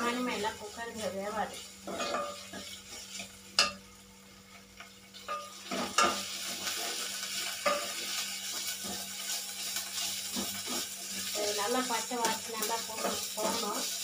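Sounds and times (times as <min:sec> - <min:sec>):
onions frying in oil sizzling: 0:00.0 - 0:14.0.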